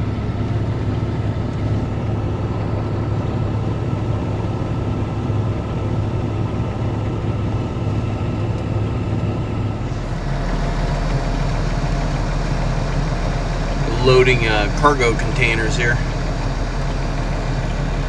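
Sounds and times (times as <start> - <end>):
combine harvester engine hum: 0.0 - 18.0.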